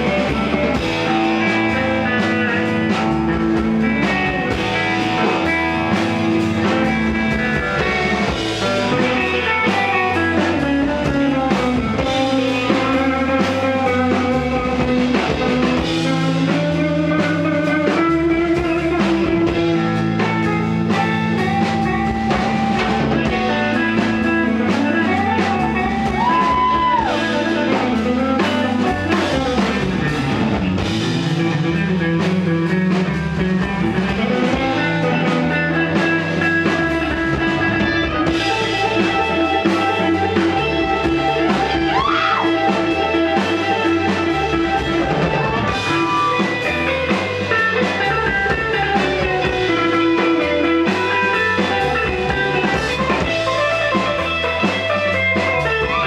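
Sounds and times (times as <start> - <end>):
bass guitar: 0.0 - 56.0
drum kit: 0.0 - 56.0
electric guitar lead: 0.0 - 56.0.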